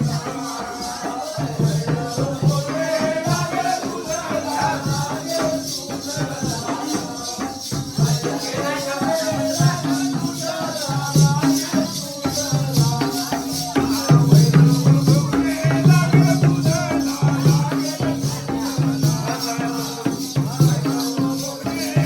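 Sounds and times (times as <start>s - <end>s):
drum beat: 0.0s - 22.0s
man singing: 0.0s - 22.0s
rhythmic jingling: 0.0s - 22.0s.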